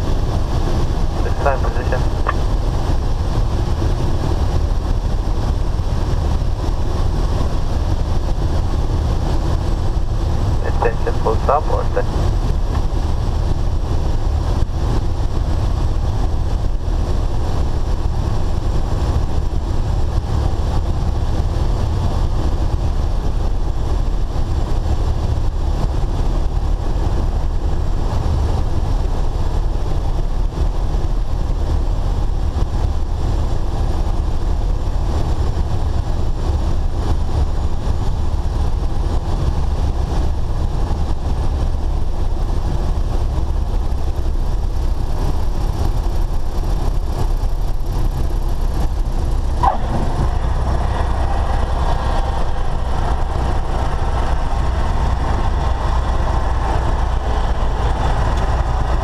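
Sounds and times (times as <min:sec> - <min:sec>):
airplane engine and propeller: 0:00.0 - 0:59.0.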